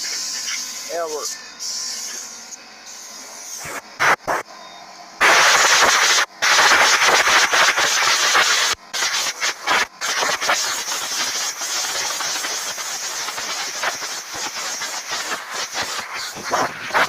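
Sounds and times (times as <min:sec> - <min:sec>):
air hose hissing: 0:00.0 - 0:02.3, 0:02.9 - 0:04.4, 0:05.2 - 0:17.0.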